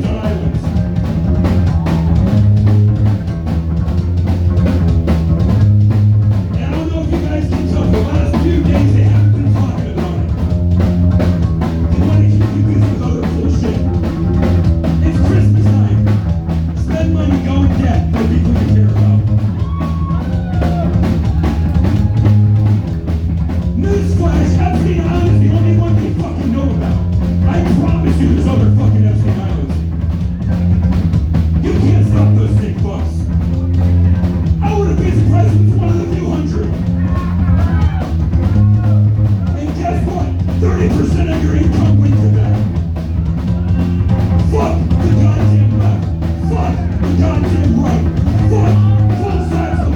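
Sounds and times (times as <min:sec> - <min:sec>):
repeating bass riff: 0:00.0 - 0:19.8, 0:20.6 - 0:49.9
drums: 0:00.0 - 0:49.9.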